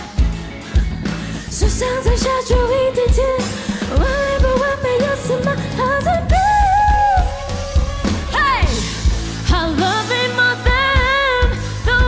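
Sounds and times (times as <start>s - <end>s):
electric guitar: 0.0s - 12.0s
woman singing: 1.5s - 12.0s.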